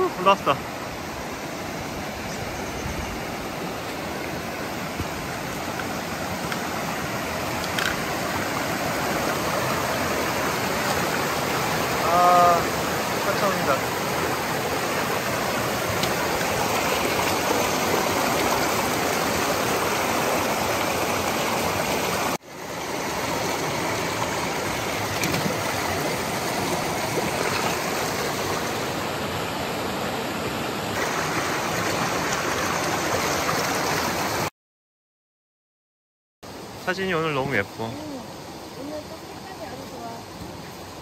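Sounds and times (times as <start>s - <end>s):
stream rushing over rocks: 0.0s - 34.5s.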